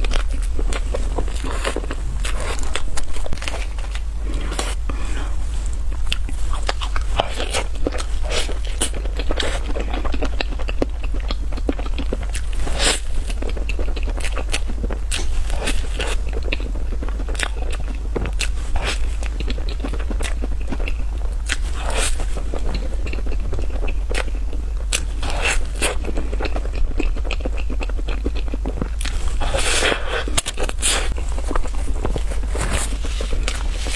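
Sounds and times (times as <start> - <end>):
steady low hum: 0.0 - 33.9
chewing with wet mouth clicks: 5.7 - 33.9.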